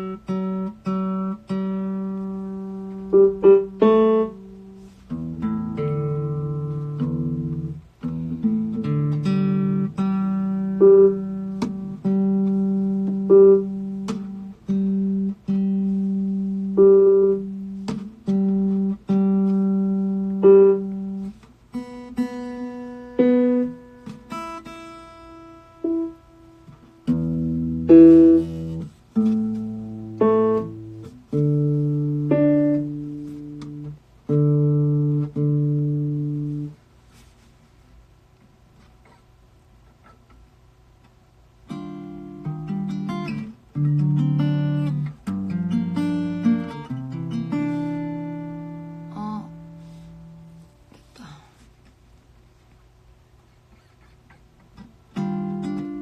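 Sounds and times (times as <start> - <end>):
guitar chords ringing: 0.0 - 37.3, 40.8 - 51.0, 54.7 - 56.0.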